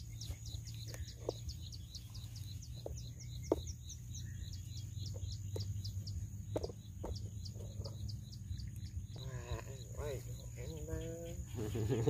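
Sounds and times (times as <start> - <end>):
bird chirping: 0.0 - 12.0
high insect whine: 0.0 - 12.0.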